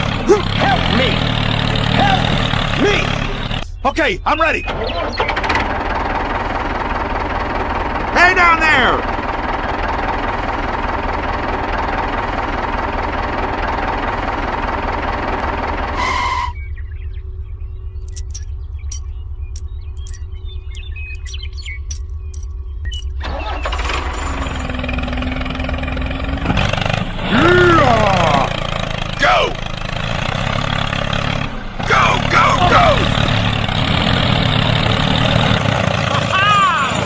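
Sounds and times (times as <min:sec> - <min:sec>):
engine rumbling: 0:00.0 - 0:37.0.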